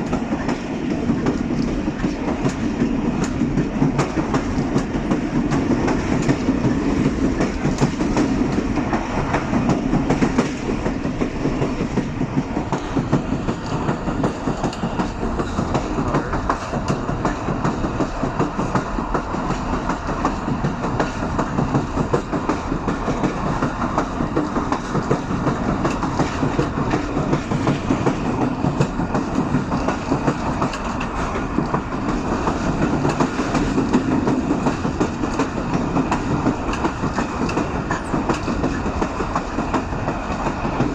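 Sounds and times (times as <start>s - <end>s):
train rumble: 0.0s - 40.9s
train wheels clattering over rail joints: 0.0s - 40.9s.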